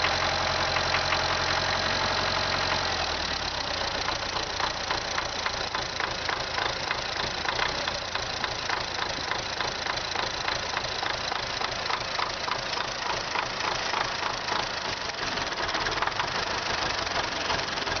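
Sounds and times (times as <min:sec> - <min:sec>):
engine knocking: 0:00.0 - 0:18.0
tractor diesel engine idling: 0:00.0 - 0:18.0.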